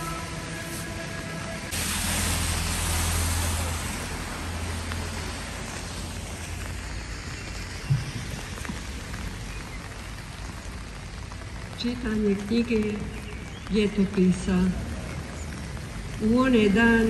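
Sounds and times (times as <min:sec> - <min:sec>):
car passing on wet road: 0:00.0 - 0:17.0
heavy rain on pavement: 0:00.0 - 0:17.0.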